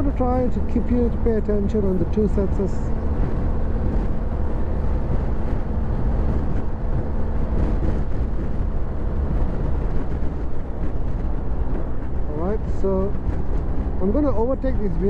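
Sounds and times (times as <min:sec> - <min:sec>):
motorcycle engine and road noise: 0:00.0 - 0:15.0
wind rushing over microphone: 0:00.0 - 0:15.0.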